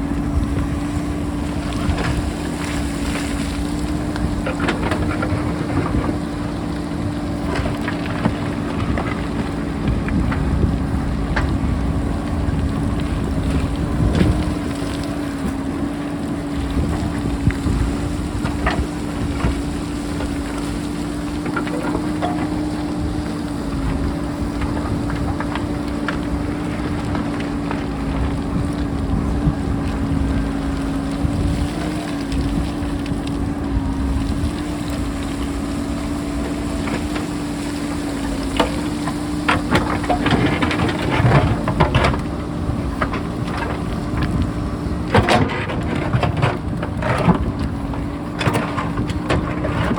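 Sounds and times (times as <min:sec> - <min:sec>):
digger engine humming: 0:00.0 - 0:49.9
rocks tumbling: 0:00.0 - 0:49.9
wind buffeting microphone: 0:00.0 - 0:49.9.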